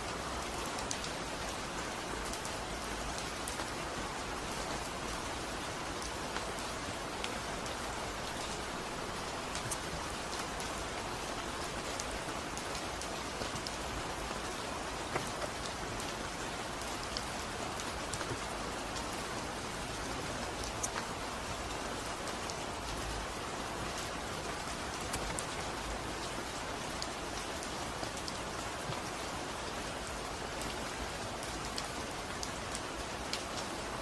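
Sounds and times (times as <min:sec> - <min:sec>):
rain pattering on a surface: 0:00.0 - 0:34.0.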